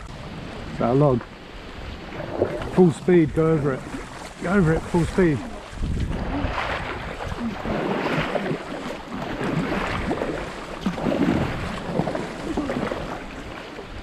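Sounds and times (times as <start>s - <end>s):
kayak paddles splashing: 0.0s - 14.0s
water gurgling around hull: 0.0s - 14.0s.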